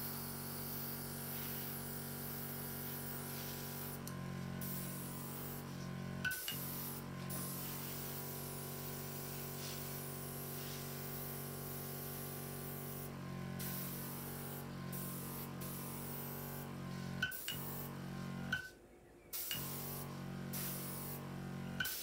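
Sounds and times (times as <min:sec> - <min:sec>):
airbrush hissing: 0:00.0 - 0:18.4, 0:19.4 - 0:21.2.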